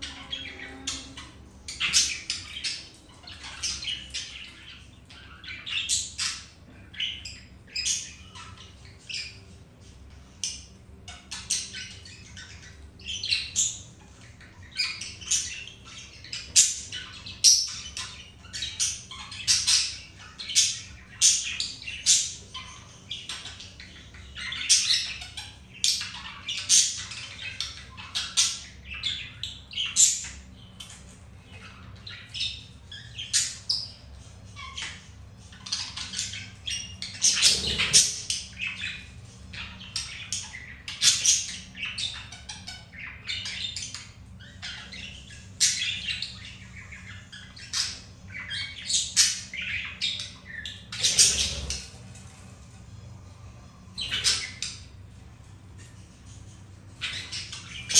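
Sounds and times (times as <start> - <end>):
budgerigars chattering: 0.0 - 52.2, 53.9 - 55.1, 56.9 - 57.9.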